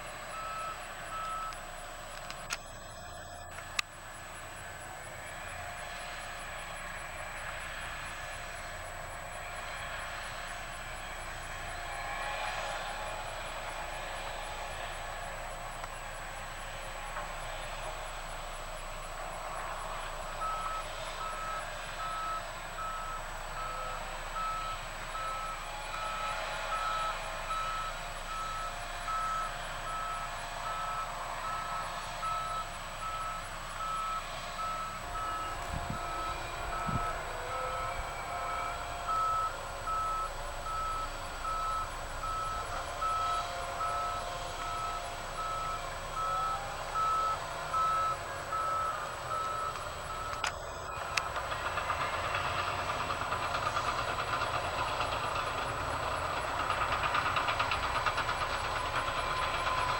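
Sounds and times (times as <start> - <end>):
machinery engine running: 0.0 - 59.9
reversing alarm beeping: 0.0 - 59.9.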